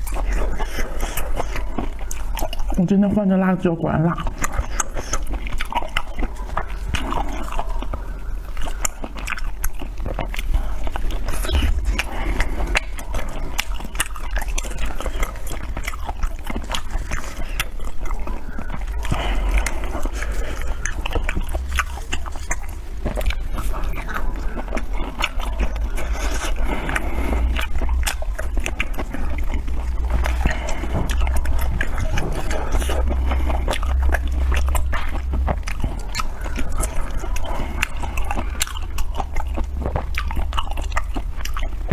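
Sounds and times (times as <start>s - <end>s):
steady low hum: 0.0s - 41.9s
wet chewing and lip smacks: 0.0s - 41.9s.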